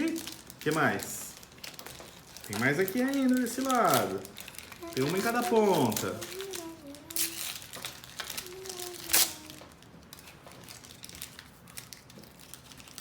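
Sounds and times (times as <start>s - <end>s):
foil wrappers crinkling: 0.0s - 13.0s
sharp crackle of foil: 0.0s - 13.0s.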